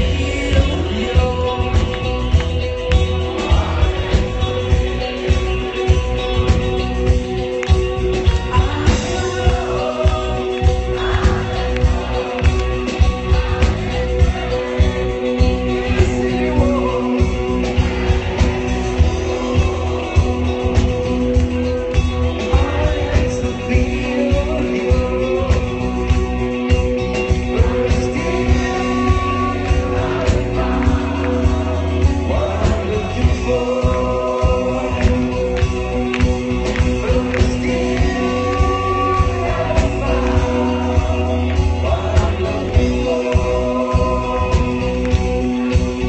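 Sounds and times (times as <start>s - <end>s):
drums: 0.0s - 46.0s
electric guitar: 0.0s - 46.0s
man singing: 0.0s - 46.0s.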